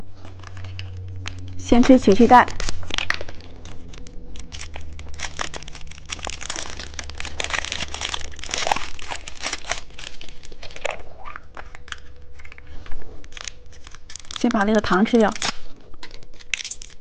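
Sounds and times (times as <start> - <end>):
plastic candy wrapper crinkling: 0.2 - 17.0.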